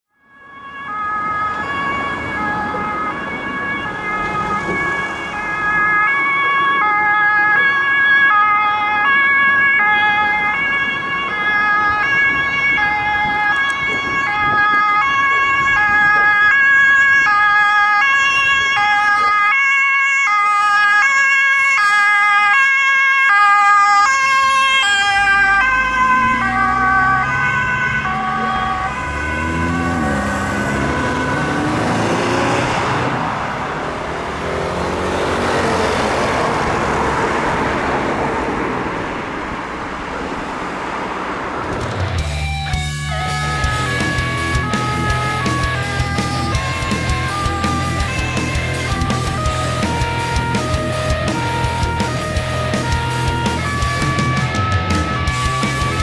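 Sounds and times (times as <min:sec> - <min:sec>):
road noise: 0:00.1 - 0:56.0
police siren two-tone: 0:00.2 - 0:33.2, 0:42.7 - 0:56.0.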